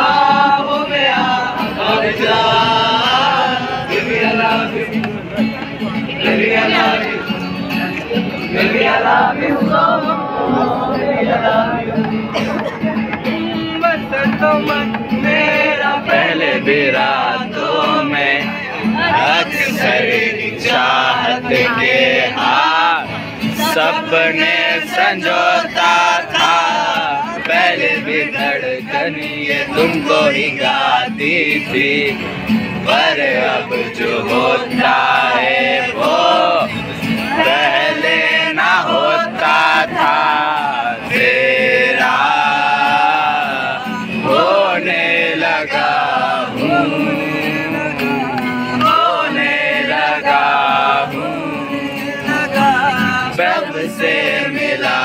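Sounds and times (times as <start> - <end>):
acoustic guitar: 0.0 - 55.0
men singing together: 0.0 - 55.0.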